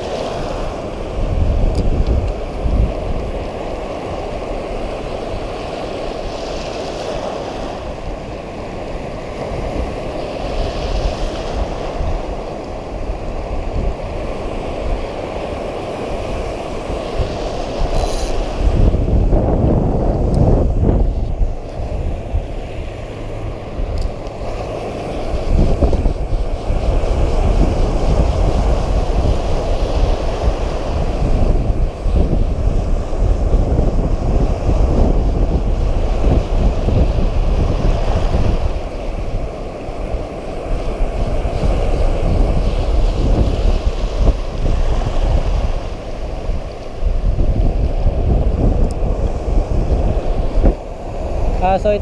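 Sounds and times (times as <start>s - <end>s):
waves breaking: 0.0s - 52.0s
wind buffeting microphone: 0.0s - 52.0s.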